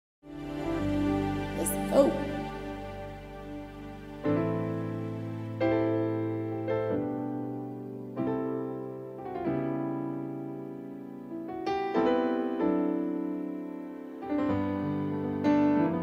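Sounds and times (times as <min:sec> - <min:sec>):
slow piano chords: 0:00.2 - 0:16.0.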